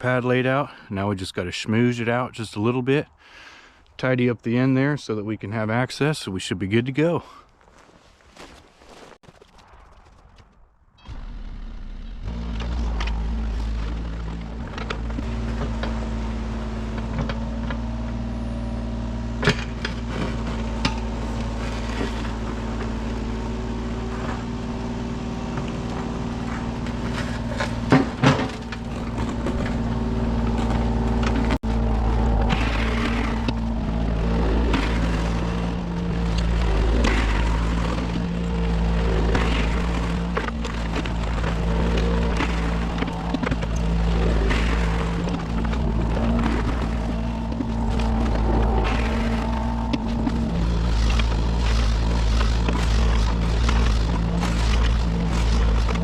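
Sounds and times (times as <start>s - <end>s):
excavator diesel engine running: 11.0s - 56.0s.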